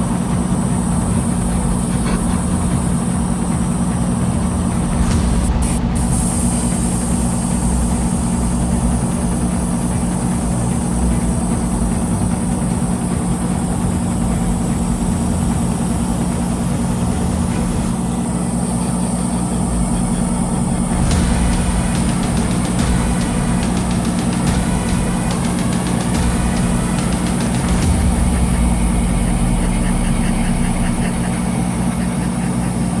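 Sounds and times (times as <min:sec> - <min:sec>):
mechanical hum with hiss: 0:00.0 - 0:33.0.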